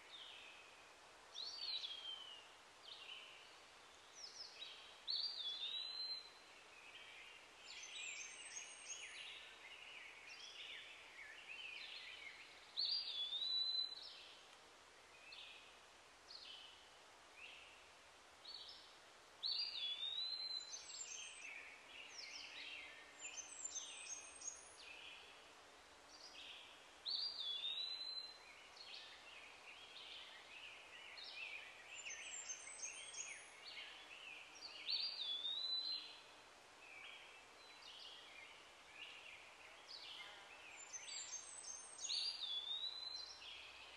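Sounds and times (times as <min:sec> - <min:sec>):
birds chirping and twittering: 0:00.0 - 0:14.4, 0:15.1 - 0:25.5, 0:26.1 - 0:43.9.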